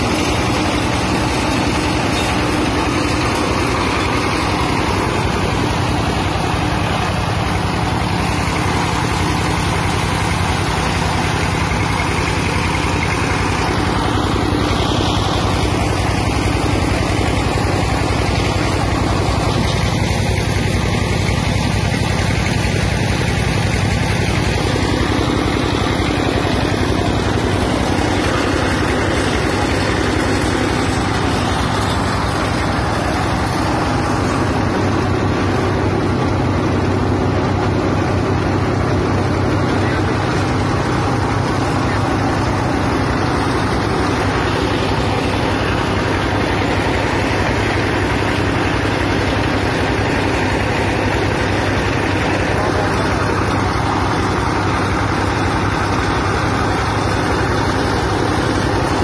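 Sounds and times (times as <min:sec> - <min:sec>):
diesel engine running: 0:00.0 - 0:59.0
grinding machine: 0:00.0 - 0:59.0.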